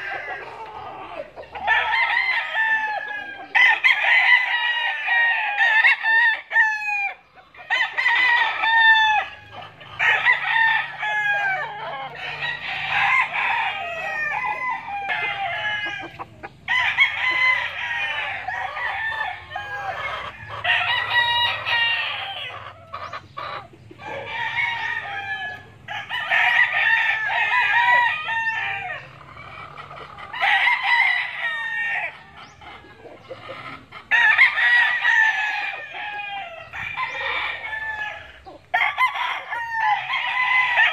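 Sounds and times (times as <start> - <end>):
roosters crowing: 0.0 - 40.9.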